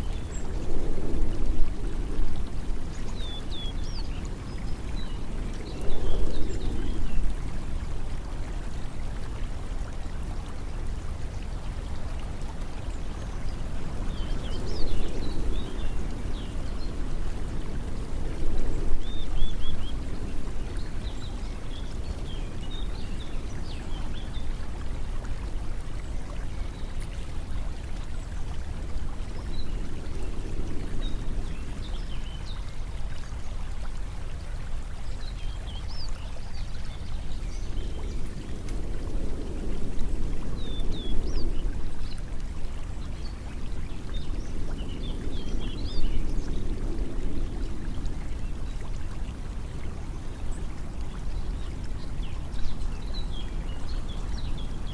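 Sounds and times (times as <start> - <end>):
running water stream: 0.0 - 54.9.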